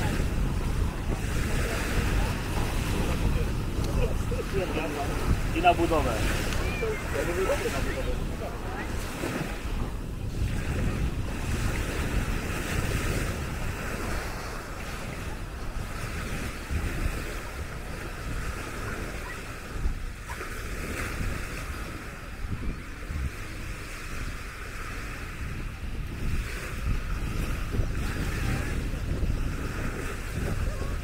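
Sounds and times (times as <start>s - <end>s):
small waves washing onto sand: 0.0s - 31.0s
wind rumbling on microphone: 0.0s - 31.0s.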